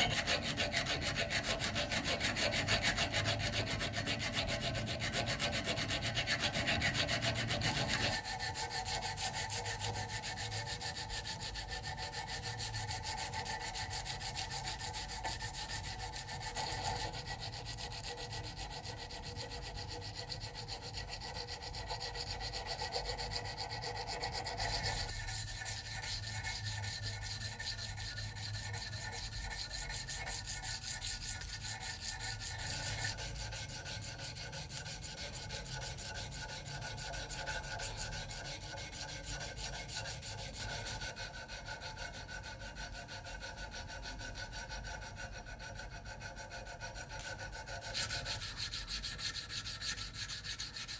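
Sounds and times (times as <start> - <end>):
sanding knife abrasive rubbing: 0.0 - 50.9.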